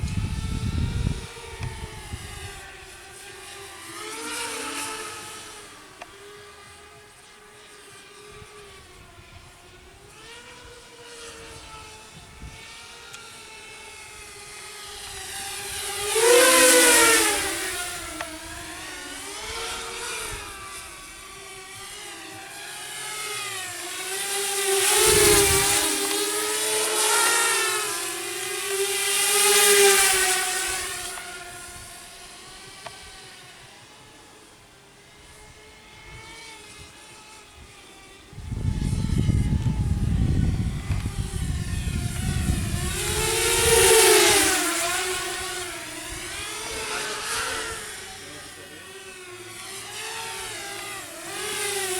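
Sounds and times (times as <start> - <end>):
quadcopter motors whining: 0.0 - 51.9.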